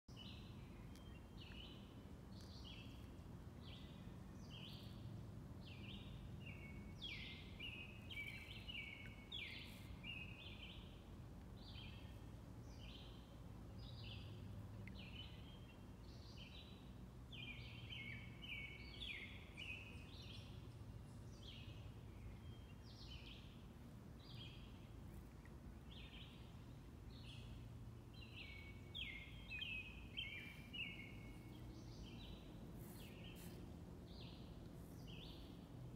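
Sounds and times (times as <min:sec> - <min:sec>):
birds singing whistled notes: 0:00.1 - 0:11.0, 0:11.6 - 0:13.2, 0:13.8 - 0:20.6, 0:21.2 - 0:24.9, 0:25.8 - 0:35.7
faint low rumble: 0:00.1 - 0:35.9.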